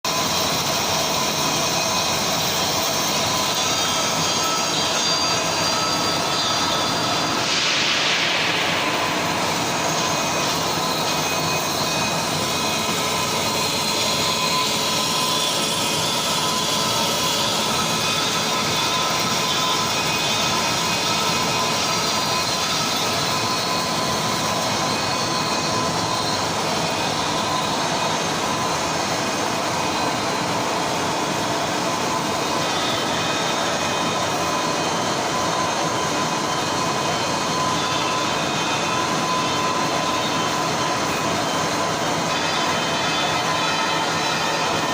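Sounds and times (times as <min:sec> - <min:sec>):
lathe machine drone: 0:00.1 - 0:44.9.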